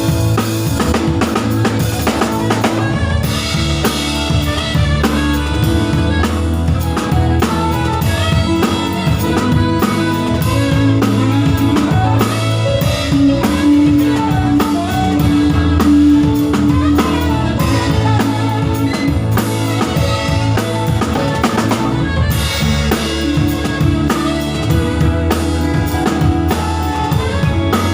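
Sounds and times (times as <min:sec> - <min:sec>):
bass and guitar through speakers: 0:00.0 - 0:27.9
drum kit beat: 0:00.0 - 0:27.9.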